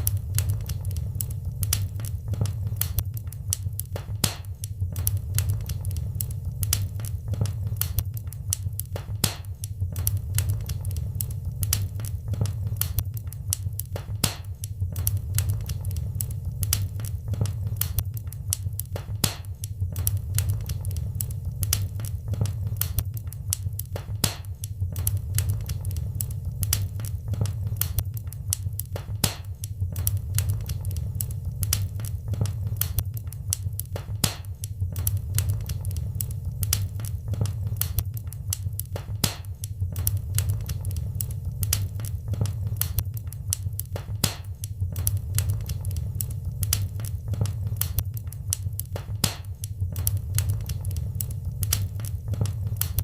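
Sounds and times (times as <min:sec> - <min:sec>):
fireplace fire crackling: 0:00.0 - 0:53.0.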